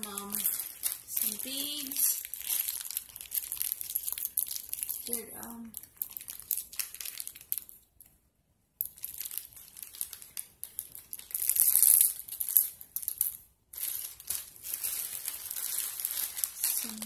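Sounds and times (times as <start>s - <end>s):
plastic bags crinkling: 0.0s - 8.1s, 8.8s - 17.0s.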